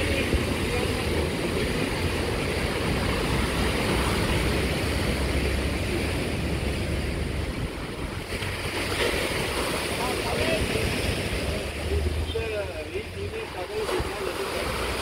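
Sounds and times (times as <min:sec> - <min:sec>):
surf washing against rocks: 0:00.0 - 0:15.0
wind rumbling on microphone: 0:00.0 - 0:15.0.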